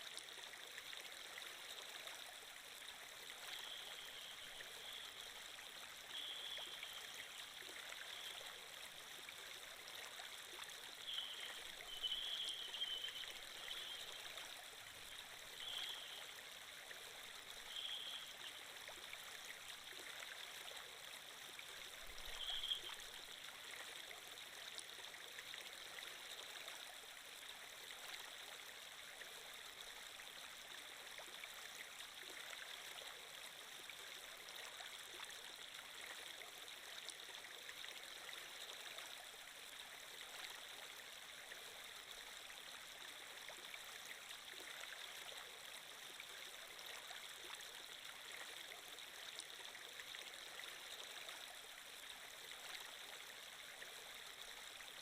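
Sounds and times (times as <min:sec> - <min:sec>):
water stream trickling: 0:00.0 - 0:55.0.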